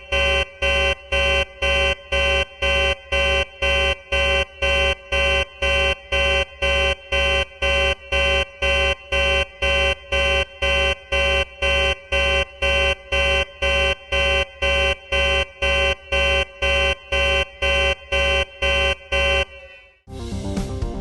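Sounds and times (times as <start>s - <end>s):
pulsing buzzing alarm: 0.0s - 20.0s.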